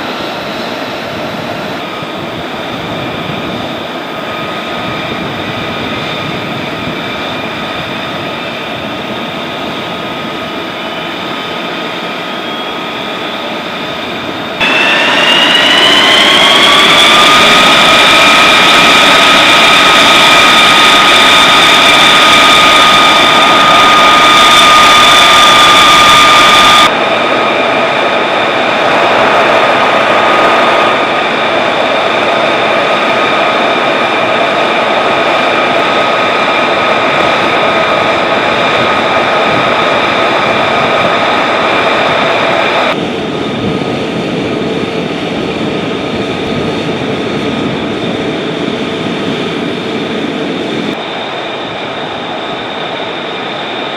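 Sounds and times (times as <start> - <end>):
jet engine running with high whine: 0.0 - 53.9.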